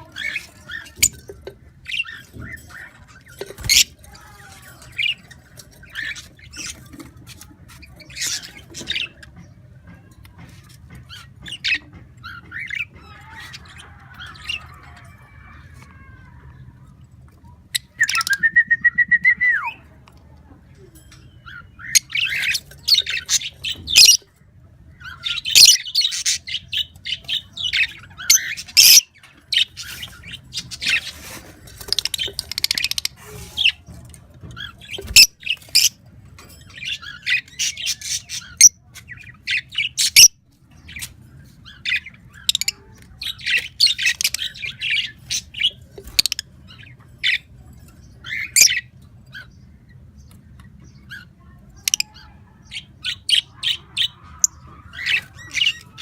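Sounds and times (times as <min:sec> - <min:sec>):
birds chirping and squawking: 0:00.0 - 0:56.0.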